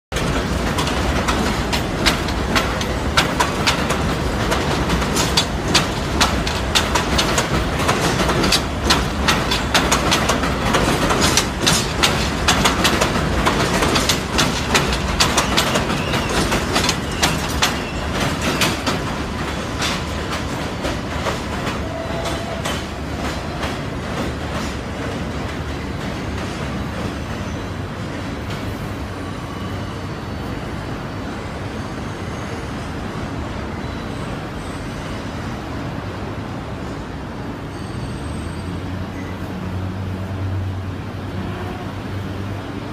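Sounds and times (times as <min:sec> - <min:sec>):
subway train wheels clattering: 0:00.1 - 0:42.9.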